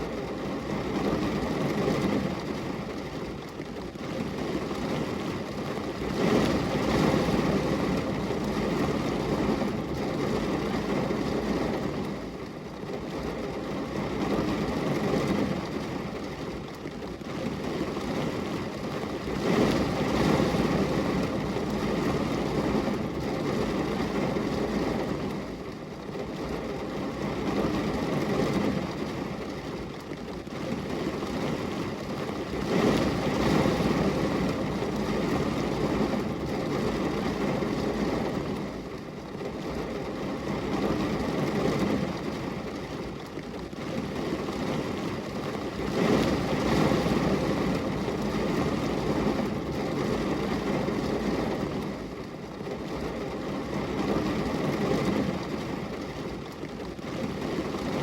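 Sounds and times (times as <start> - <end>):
rain on a glass window: 0.0 - 58.0.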